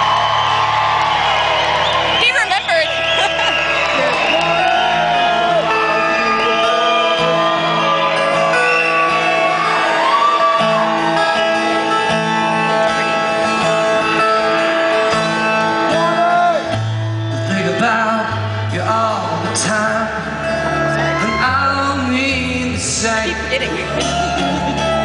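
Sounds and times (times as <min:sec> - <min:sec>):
acoustic guitar: 0:00.0 - 0:25.0
bass guitar: 0:00.0 - 0:25.0.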